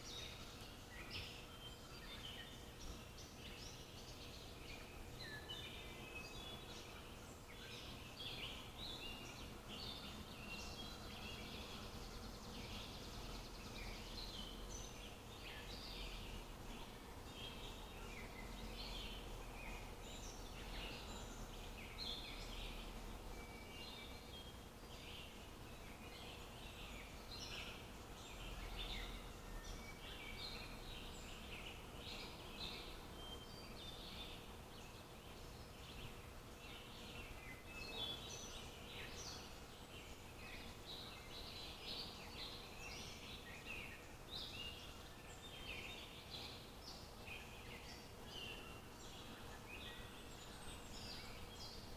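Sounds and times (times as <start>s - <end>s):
low background hiss: 0.0s - 51.9s
small birds chirping: 0.0s - 51.9s.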